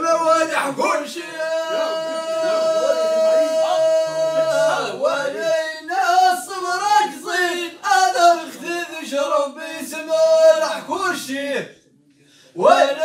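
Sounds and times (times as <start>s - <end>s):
men singing ornamented melody: 0.0s - 11.6s, 12.6s - 13.0s.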